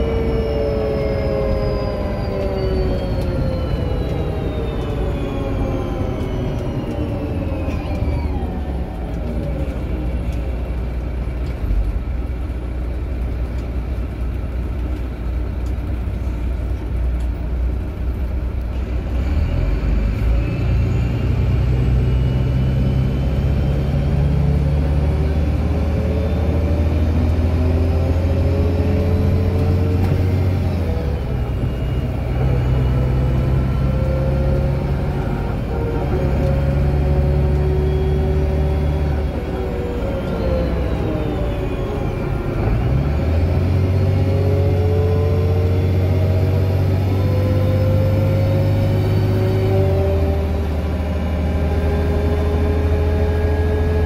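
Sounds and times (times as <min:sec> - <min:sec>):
bus axle whine: 0:00.0 - 0:54.0
diesel engine pulling hard: 0:00.0 - 0:54.0.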